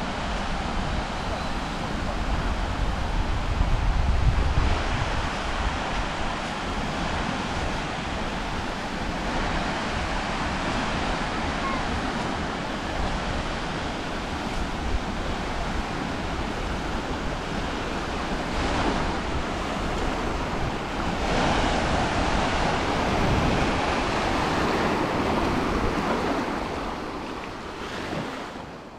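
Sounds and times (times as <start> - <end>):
waves washing onto beach: 0.0 - 28.9
wind buffeting microphone: 0.0 - 28.9.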